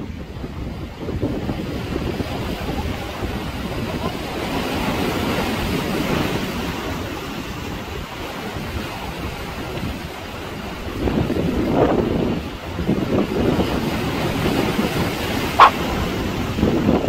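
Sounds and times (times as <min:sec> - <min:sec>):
sea surf: 0:00.0 - 0:17.0
wind buffeting microphone: 0:00.0 - 0:17.0.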